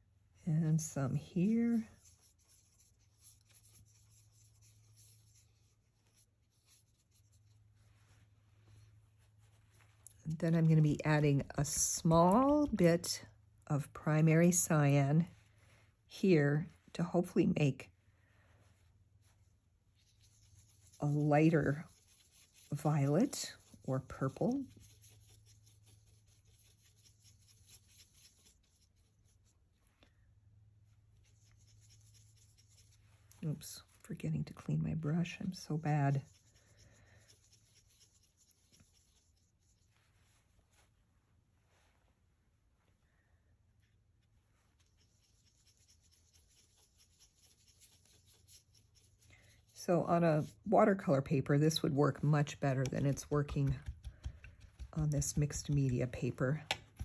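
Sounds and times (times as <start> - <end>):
low steady hum: 0.0 - 57.0
paintbrush scratching on paper: 0.8 - 13.1, 18.6 - 30.0, 30.8 - 41.0, 43.8 - 57.0.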